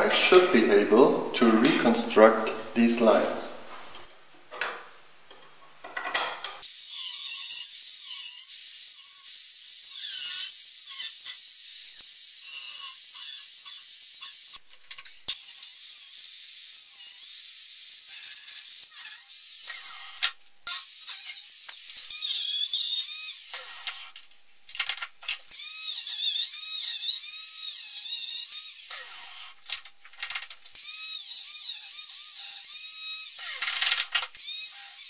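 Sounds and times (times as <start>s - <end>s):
angle grinder cutting steel: 6.6s - 35.0s.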